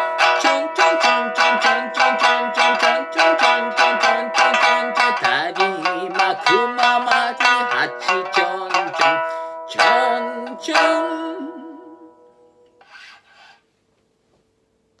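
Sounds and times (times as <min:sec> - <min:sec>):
plucked lute: 0:00.0 - 0:13.2.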